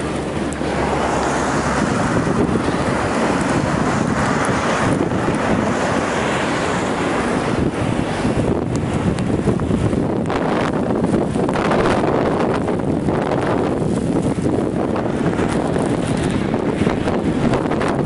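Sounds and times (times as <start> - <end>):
highway traffic passing: 0.0 - 18.0
wind blowing across microphone: 0.0 - 18.0.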